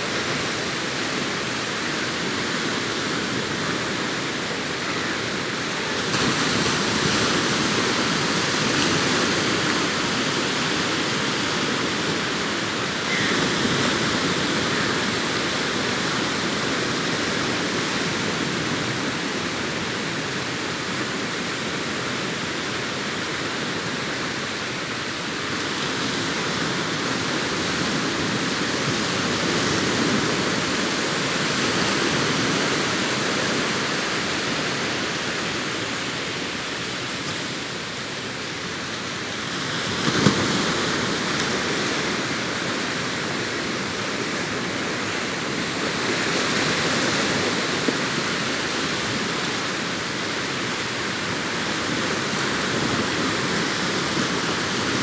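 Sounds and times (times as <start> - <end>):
waves washing up beach: 0.0 - 55.0.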